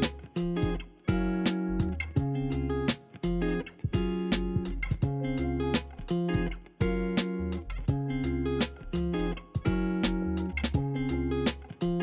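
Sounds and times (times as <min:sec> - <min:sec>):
music with chords bass and drums: 0:00.0 - 0:12.0.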